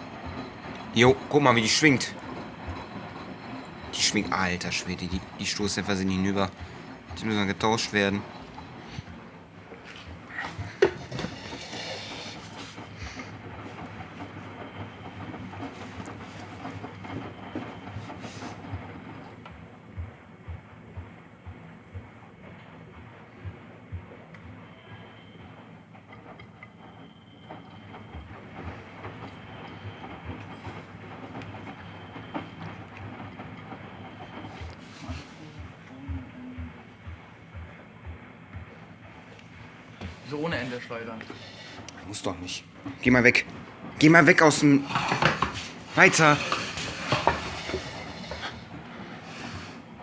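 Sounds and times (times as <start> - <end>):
low knocks of swaying machine: 0.0 - 41.9
washing machine spinning: 0.0 - 50.0.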